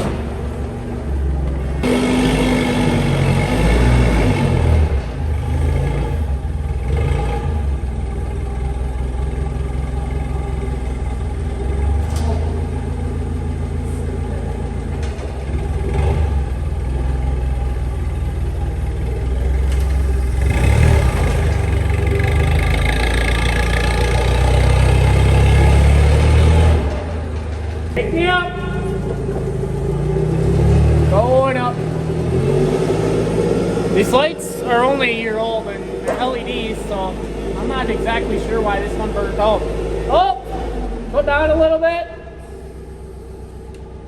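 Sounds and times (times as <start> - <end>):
forklift engine revving: 0.0 - 44.0.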